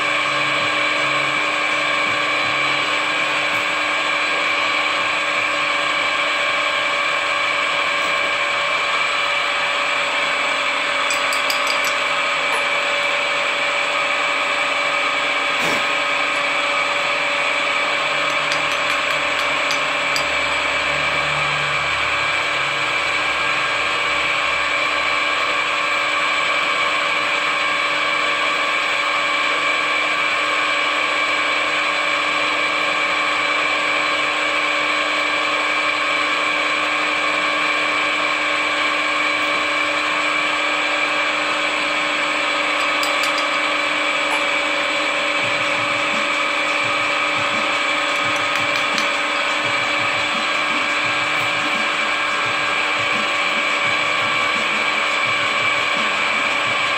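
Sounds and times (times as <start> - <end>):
drill press whining: 0.0 - 56.9.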